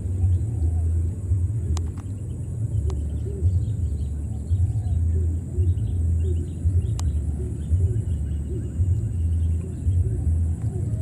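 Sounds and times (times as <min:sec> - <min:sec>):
uneven low rumble: 0:00.0 - 0:11.0.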